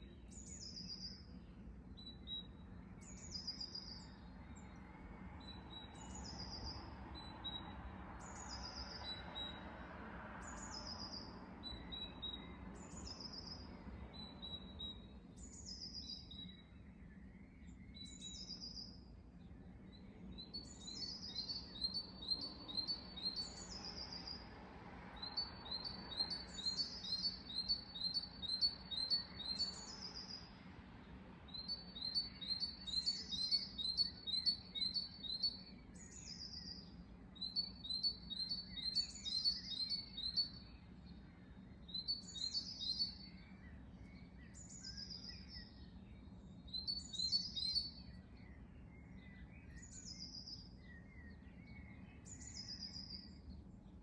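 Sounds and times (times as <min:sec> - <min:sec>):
faint background noise: 0:00.0 - 0:54.0.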